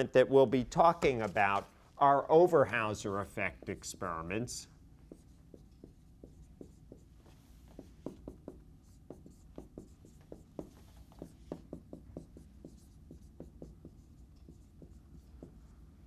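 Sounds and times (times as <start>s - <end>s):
marker writing on whiteboard: 0.8s - 1.7s, 3.0s - 16.0s.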